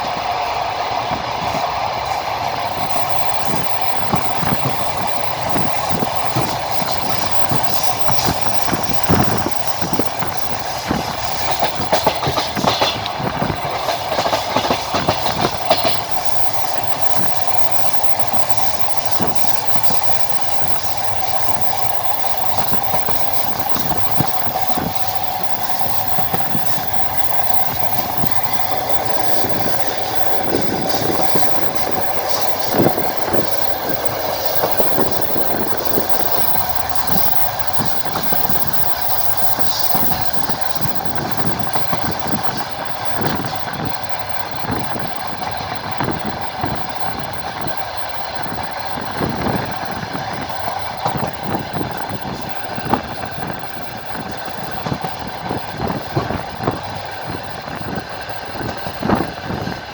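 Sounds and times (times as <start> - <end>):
train rolling rumble: 0.0 - 59.9
train wheels clattering over rail joints: 2.5 - 59.9.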